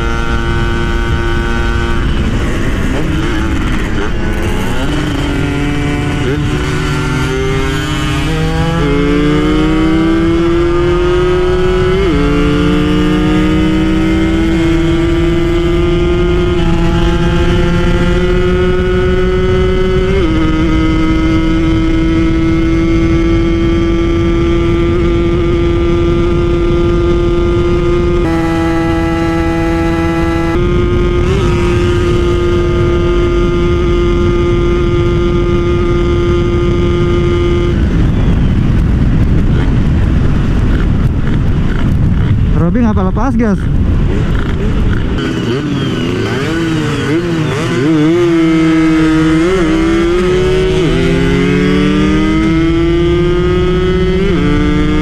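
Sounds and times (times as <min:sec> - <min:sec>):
two-stroke engine at full throttle: 0:00.0 - 0:55.0.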